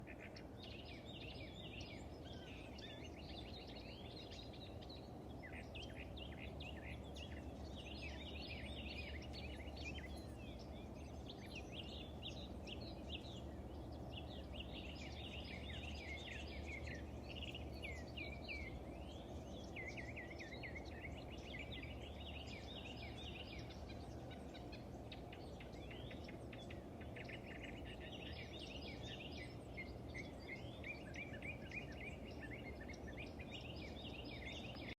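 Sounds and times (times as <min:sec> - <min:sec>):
birds chirping and singing: 0:00.0 - 0:34.9.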